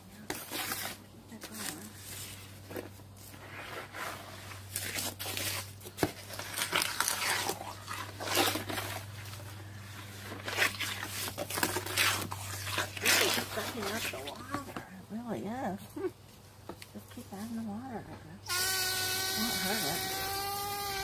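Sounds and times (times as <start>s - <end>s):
cloth rustling in wet concrete: 0.0s - 18.0s.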